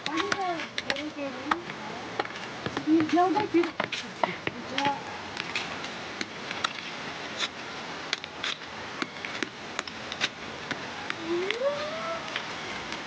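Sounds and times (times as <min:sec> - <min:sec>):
steady hiss: 0:01.2 - 0:13.0.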